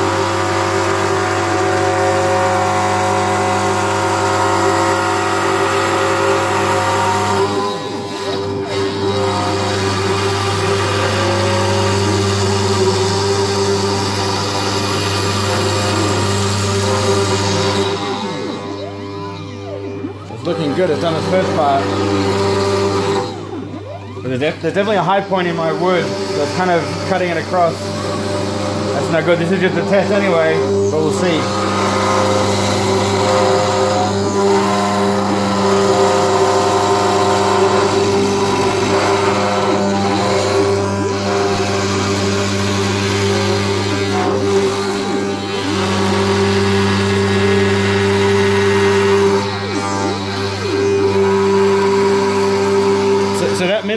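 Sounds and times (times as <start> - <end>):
bit cutting wood: 0.0 - 53.9
spindle motor hum: 0.0 - 53.9.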